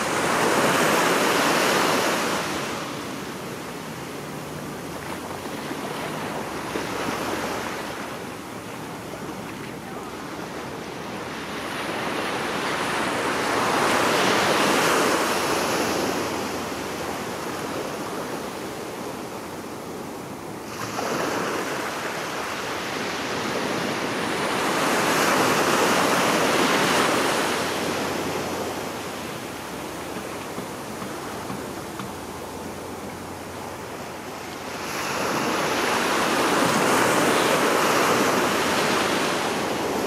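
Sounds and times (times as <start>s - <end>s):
ocean surf washing over rocks: 0.0s - 32.8s, 34.1s - 40.0s.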